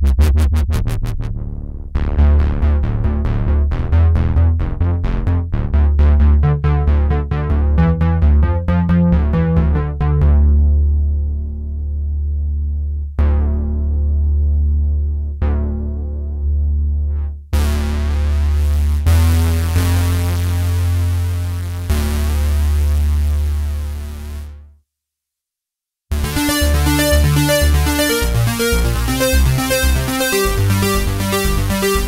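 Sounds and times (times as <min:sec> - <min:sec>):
synthesizer bass notes: 0:00.0 - 0:24.6, 0:26.1 - 0:32.0.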